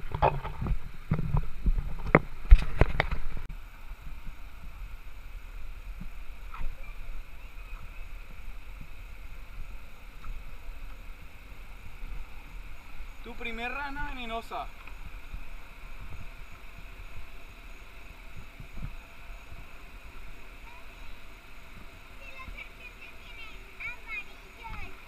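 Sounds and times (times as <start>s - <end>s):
creek running over rocks: 0.0s - 25.0s.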